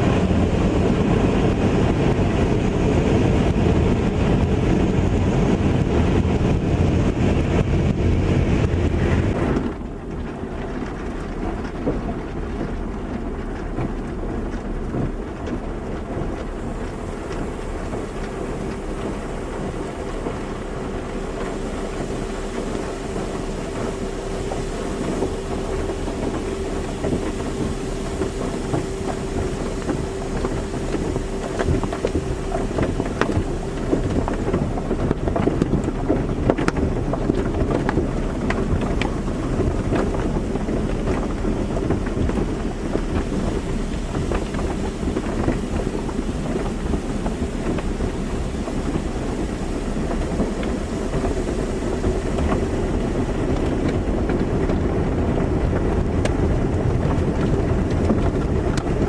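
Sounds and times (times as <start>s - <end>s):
deep machinery rumble: 0.0s - 59.0s
steady hum: 0.0s - 59.0s
water spray rushing: 0.0s - 59.0s.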